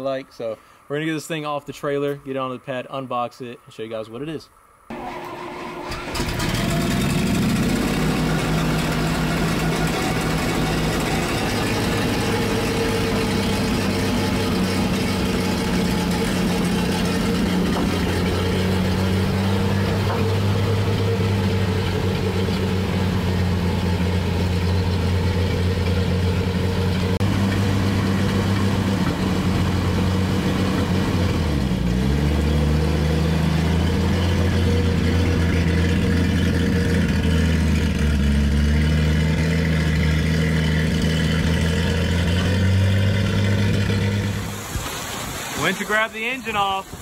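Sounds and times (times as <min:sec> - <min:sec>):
truck engine running: 0:04.9 - 0:47.0.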